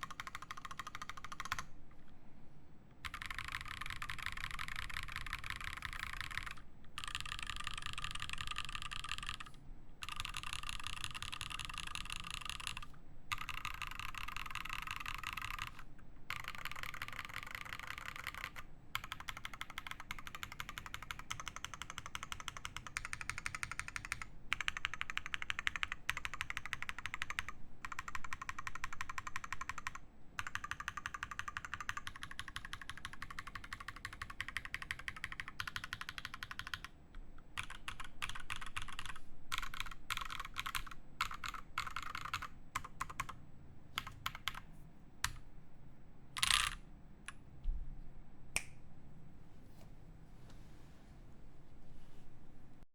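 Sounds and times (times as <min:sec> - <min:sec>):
fast typing on mechanical keyboard: 0:00.0 - 0:01.7, 0:03.0 - 0:43.4, 0:44.0 - 0:45.4, 0:46.4 - 0:46.8.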